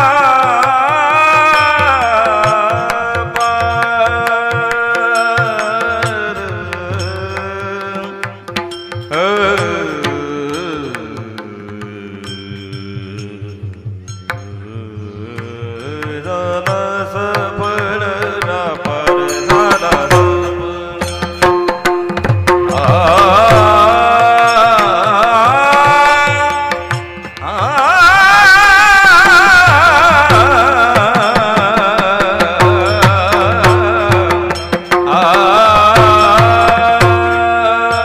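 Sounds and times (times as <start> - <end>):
man singing devotional song: 0.0 - 38.0.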